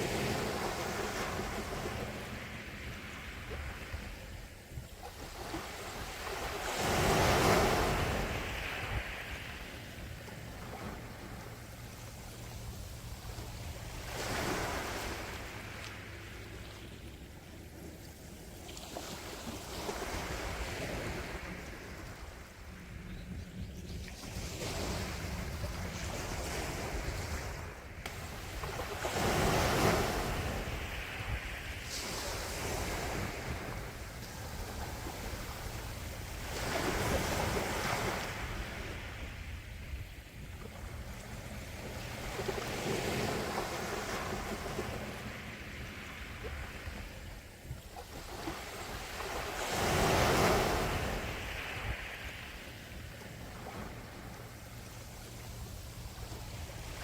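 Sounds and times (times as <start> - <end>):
calm sea waves washing: 0.0 - 57.0.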